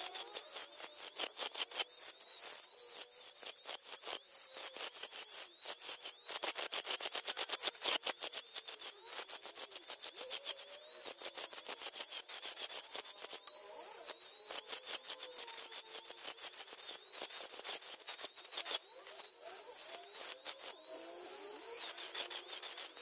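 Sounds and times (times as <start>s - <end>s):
rotary tool grinding shell: 0.0s - 23.0s.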